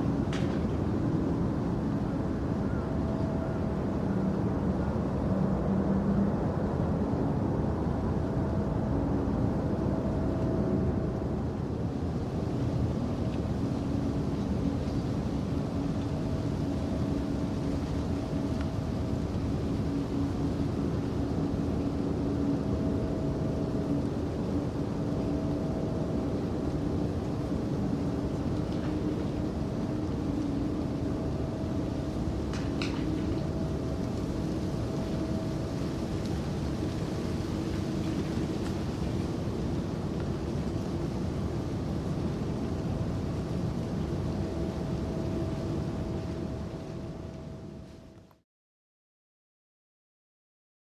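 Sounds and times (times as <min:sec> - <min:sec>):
outdoor background rumble: 0:00.0 - 0:48.3
faint hum: 0:00.0 - 0:48.4.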